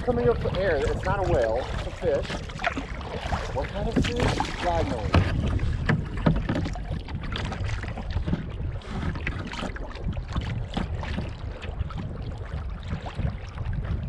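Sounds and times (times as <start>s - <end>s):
water lapping against kayak hull: 0.0s - 14.0s
wind buffeting microphone: 0.0s - 14.0s.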